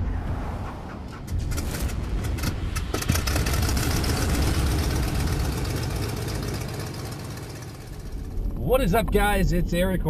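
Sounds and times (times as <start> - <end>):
loud engine-like rumble: 0.0 - 10.0.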